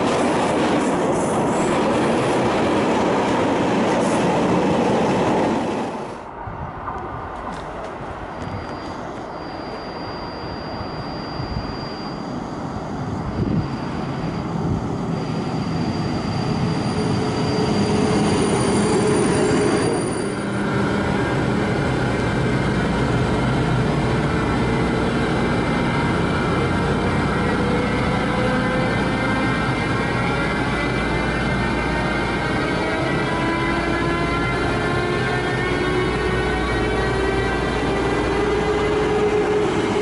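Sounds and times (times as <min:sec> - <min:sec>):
train passing close by: 0:00.0 - 0:40.0.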